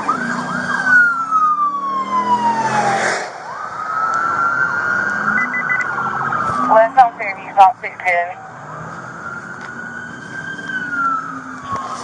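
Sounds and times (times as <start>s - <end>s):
police siren yelp and wail: 0.0s - 12.0s.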